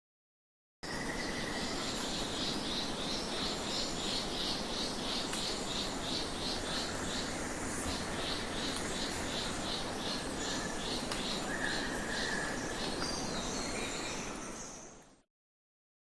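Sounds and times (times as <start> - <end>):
outdoor hiss: 1.0 - 15.1.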